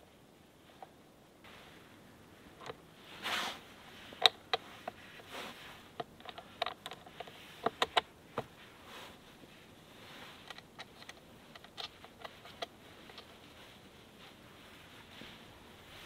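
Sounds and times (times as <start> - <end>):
soft rustles: 0.0 - 16.0.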